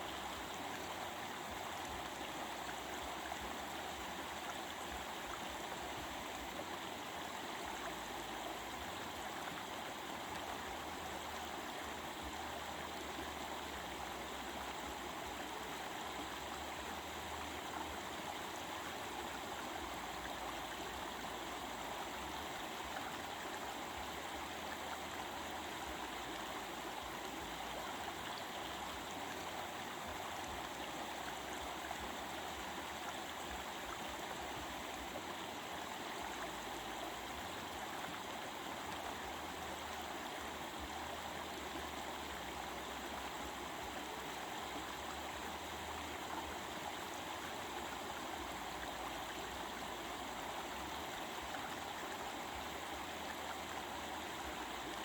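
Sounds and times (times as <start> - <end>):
water babbling over rocks: 0.0 - 55.0.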